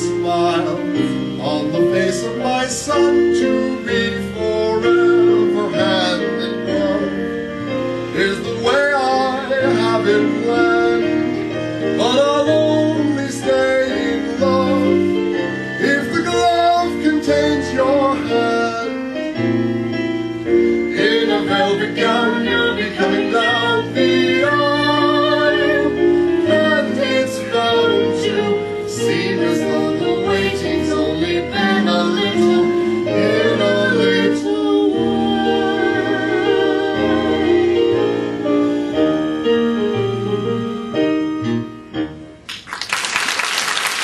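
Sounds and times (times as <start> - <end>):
instrumental accompaniment: 0.0 - 42.9.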